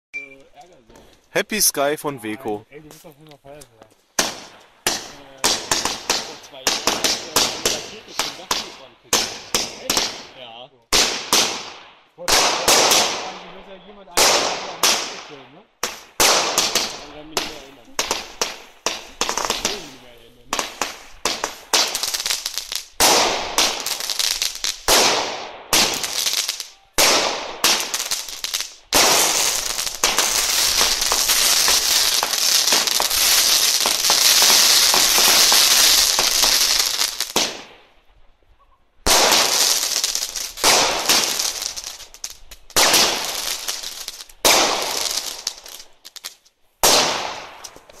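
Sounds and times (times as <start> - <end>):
fireworks shots: 4.1 - 38.1, 39.0 - 48.0.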